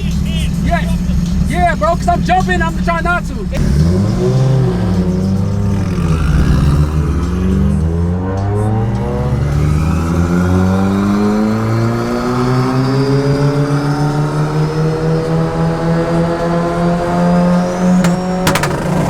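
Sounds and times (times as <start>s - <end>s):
turbocharged car engine accelerating: 0.0s - 19.0s.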